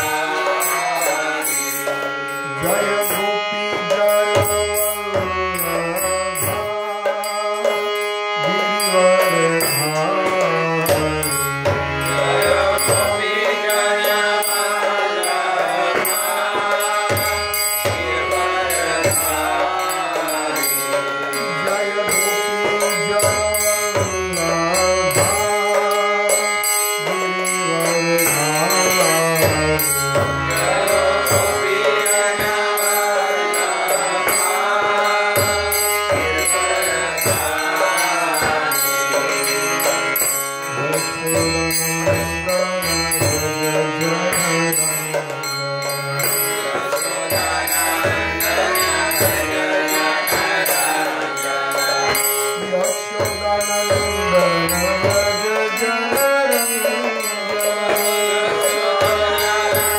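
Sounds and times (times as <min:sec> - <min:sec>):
harmonium chords: 0:00.0 - 0:59.9
man chanting: 0:00.0 - 0:59.9.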